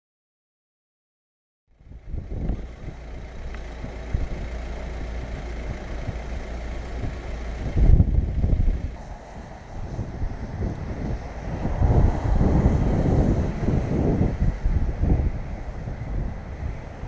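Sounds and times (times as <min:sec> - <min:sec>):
car rumbling on cobblestones: 0:01.7 - 0:17.0.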